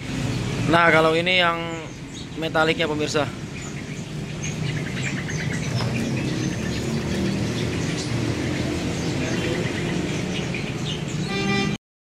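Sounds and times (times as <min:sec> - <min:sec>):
caged birds chirping: 0:00.0 - 0:11.8.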